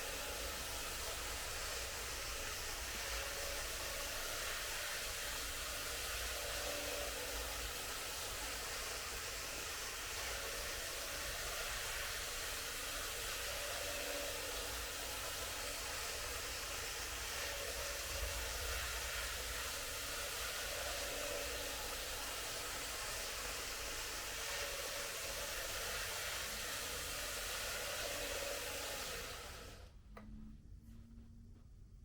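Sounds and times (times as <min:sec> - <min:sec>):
model train running on track: 0:00.0 - 0:29.9.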